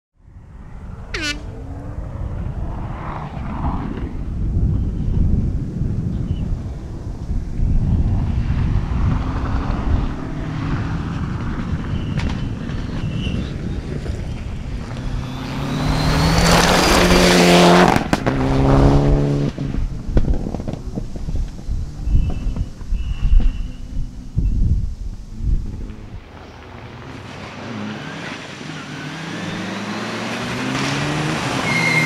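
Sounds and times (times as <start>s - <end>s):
wind rumble on microphone: 0.2s - 26.6s
rally car engine at full throttle: 0.7s - 32.0s.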